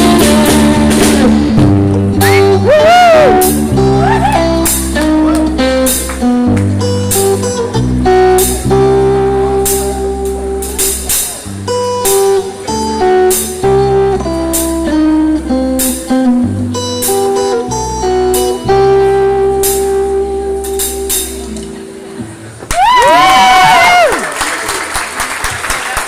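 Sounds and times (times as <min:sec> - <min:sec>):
bass guitar: 0:00.0 - 0:24.1
drums: 0:00.0 - 0:24.2
electric guitar: 0:00.0 - 0:24.3.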